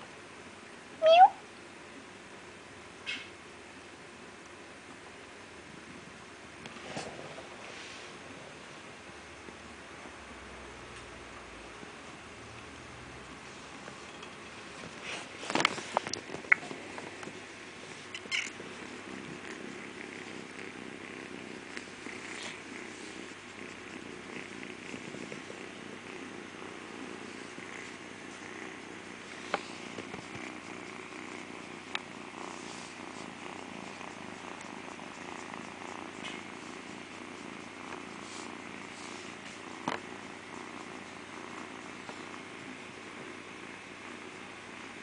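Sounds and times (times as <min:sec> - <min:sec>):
kitten purring: 0:01.0 - 0:01.4, 0:04.1 - 0:45.0.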